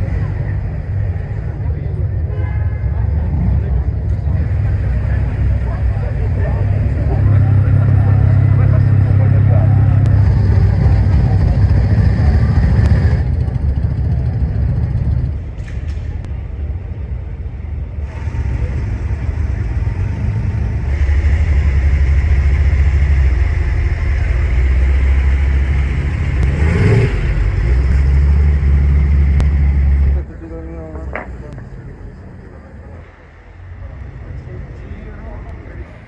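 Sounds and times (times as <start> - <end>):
car engines rumbling: 0.0 - 36.0.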